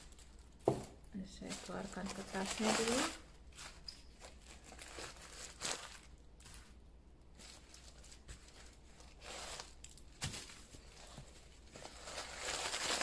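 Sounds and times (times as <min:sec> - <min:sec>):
tissue paper rustling: 0:01.2 - 0:13.0.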